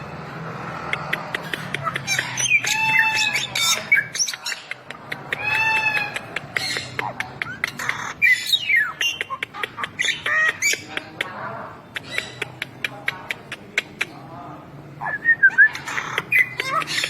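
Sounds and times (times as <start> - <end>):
myna singing clicks and squawks: 0.7 - 17.0.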